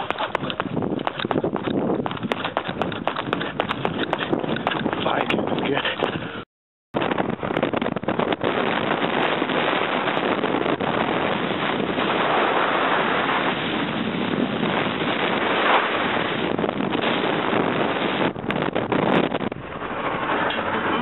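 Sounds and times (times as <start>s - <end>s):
wind rushing over microphone: 0.0s - 6.4s, 7.0s - 21.0s.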